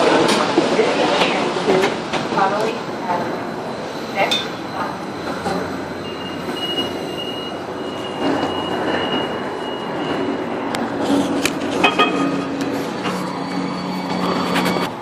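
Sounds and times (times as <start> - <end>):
light rail train running: 0.0 - 15.0.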